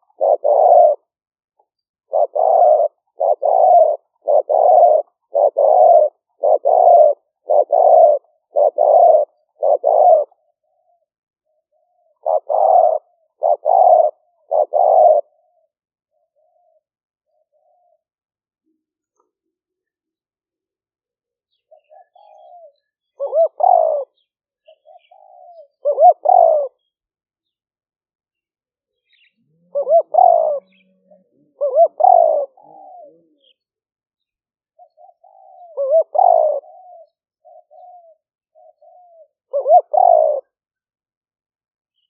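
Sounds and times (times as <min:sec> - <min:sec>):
dove cooing: 0:00.0 - 0:18.2, 0:21.5 - 0:26.9, 0:29.0 - 0:33.7, 0:34.7 - 0:40.6.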